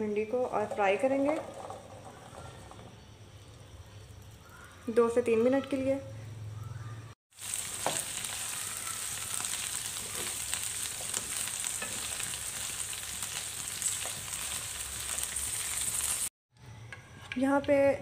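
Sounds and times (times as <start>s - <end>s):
okra sizzling in oil: 0.0s - 5.8s, 7.3s - 16.3s.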